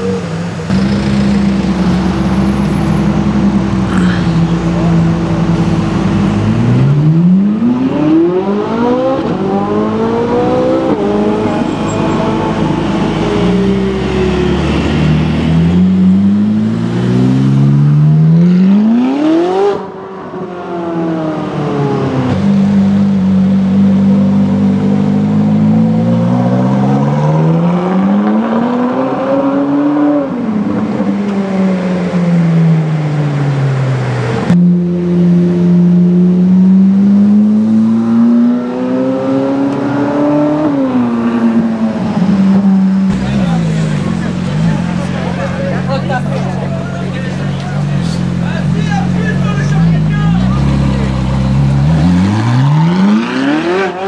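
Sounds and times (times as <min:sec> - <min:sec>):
sports car engine revving: 0:00.6 - 0:32.9, 0:34.4 - 0:54.0.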